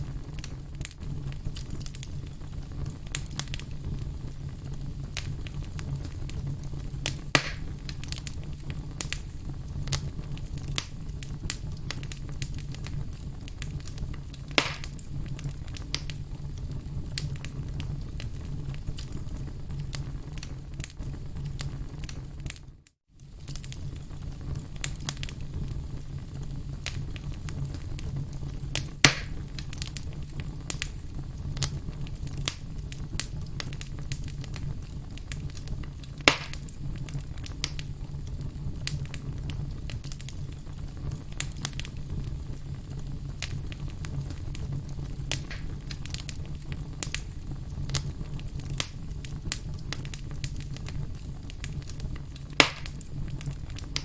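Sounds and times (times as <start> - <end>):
firewood crackling: 0.0 - 54.0
loud fire pops: 0.0 - 54.0
low rumble of fire: 0.0 - 54.0.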